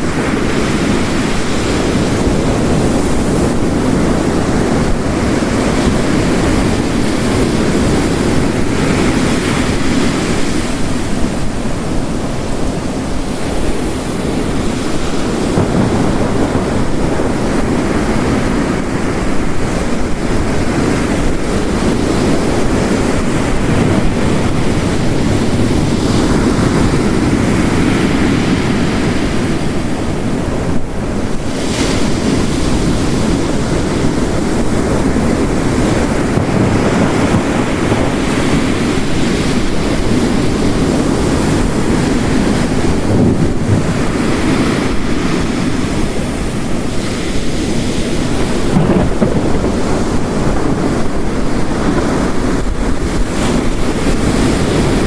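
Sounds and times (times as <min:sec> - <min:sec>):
heavy rain: 0:00.0 - 0:55.0
ocean waves breaking on shore: 0:00.0 - 0:55.0.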